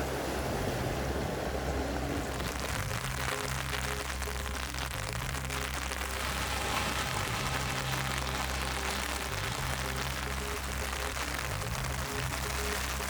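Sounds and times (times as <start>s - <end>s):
heavy rain falling: 0.0s - 13.0s
low steady hum: 0.0s - 13.0s.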